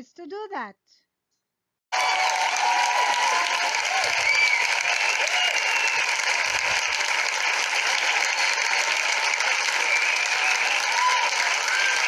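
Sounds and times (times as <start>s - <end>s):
crowd applause: 1.9s - 12.0s.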